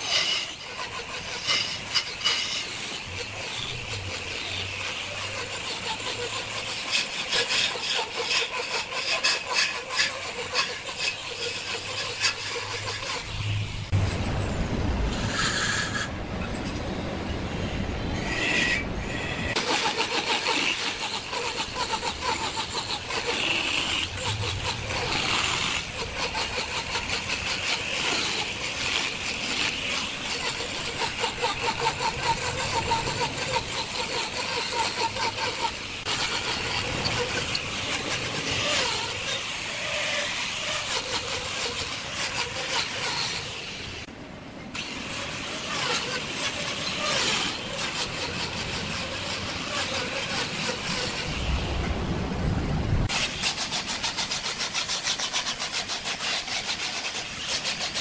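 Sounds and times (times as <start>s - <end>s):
angle grinder grinding wood: 0.0s - 14.1s, 18.2s - 44.1s, 44.8s - 51.9s, 53.1s - 58.0s.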